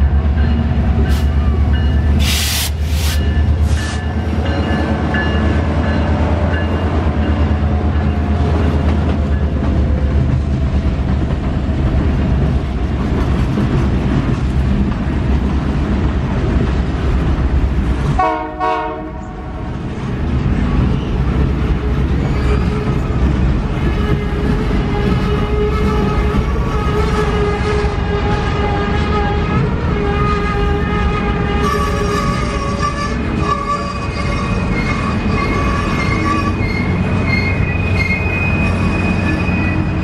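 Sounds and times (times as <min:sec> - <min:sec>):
diesel locomotive passing: 0:00.0 - 0:40.0
wheels rumbling on rail: 0:00.0 - 0:40.0.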